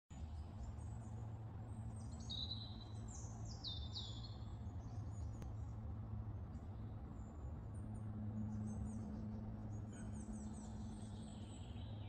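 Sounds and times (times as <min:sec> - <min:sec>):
low background rumble: 0:00.1 - 0:12.0.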